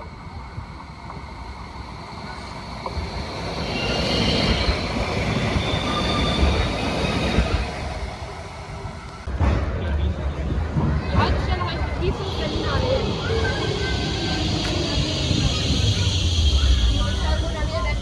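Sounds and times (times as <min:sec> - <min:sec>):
high-pitched wheel squeal: 0:00.0 - 0:09.2, 0:11.8 - 0:18.0
tram rolling noise: 0:00.0 - 0:18.0.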